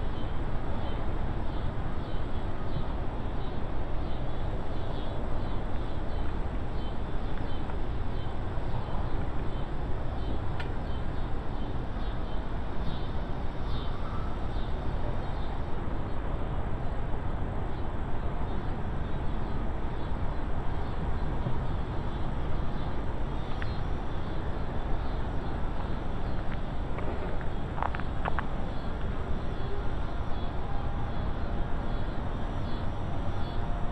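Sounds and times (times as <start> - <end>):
wind buffeting microphone: 0.0 - 33.3.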